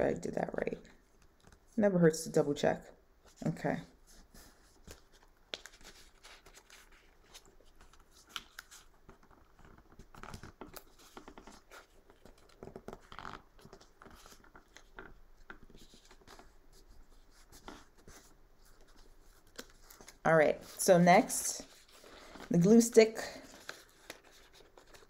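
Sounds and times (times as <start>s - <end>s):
paper rustling and folding: 4.0s - 25.0s.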